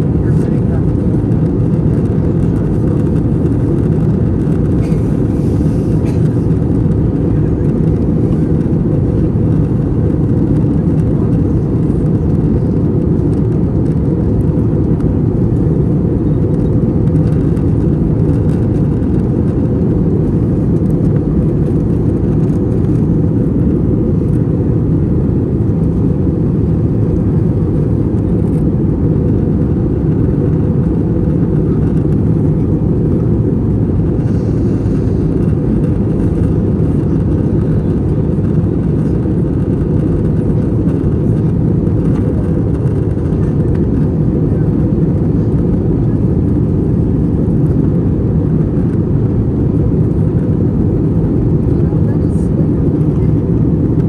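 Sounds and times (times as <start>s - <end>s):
jet engines droning in cabin: 0.0s - 54.0s.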